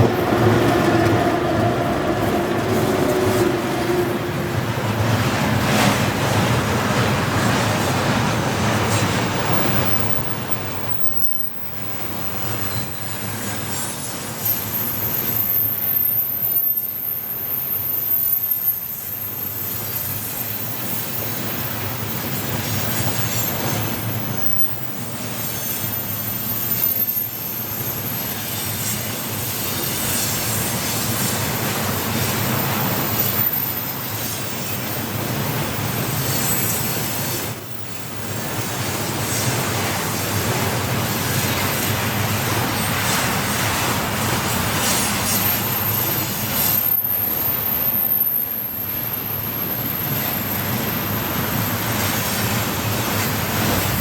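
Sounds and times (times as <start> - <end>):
freight train wagons rolling: 0.0 - 15.6, 20.8 - 54.0
wheels squealing on rails: 0.0 - 54.0.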